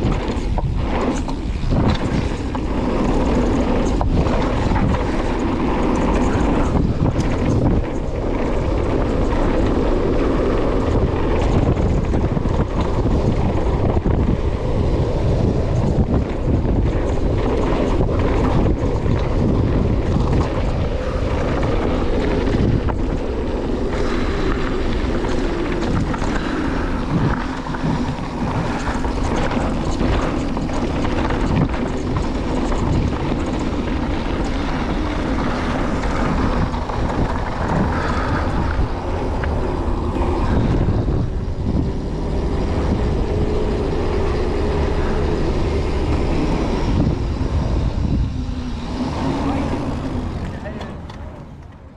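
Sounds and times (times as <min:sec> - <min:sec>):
bike rattling over bumps: 0:00.0 - 0:51.9
bike tyres rolling on dirt: 0:00.0 - 0:51.9
wind rush over microphone: 0:00.0 - 0:51.9.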